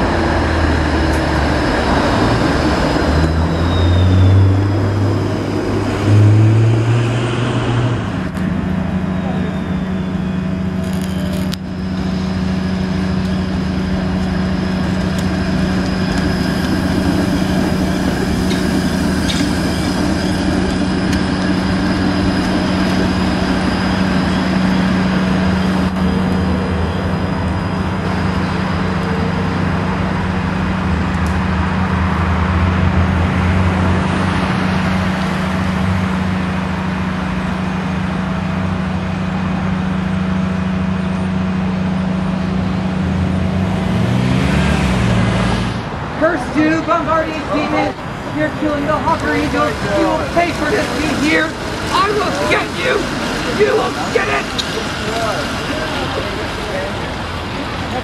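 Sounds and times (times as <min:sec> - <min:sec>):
road traffic: 0:00.0 - 0:58.0
streetcar running on track: 0:00.0 - 0:58.0.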